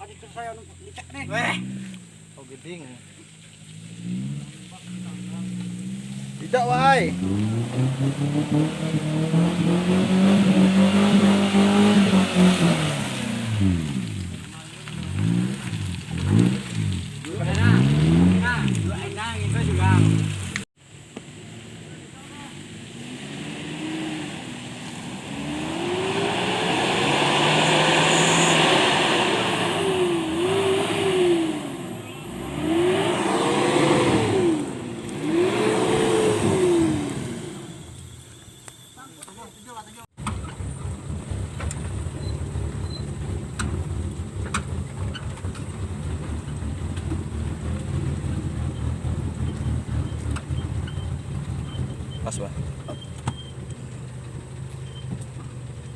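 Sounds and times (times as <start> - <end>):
vehicle engine revving: 0.0 - 20.7, 21.4 - 38.4, 39.4 - 55.9.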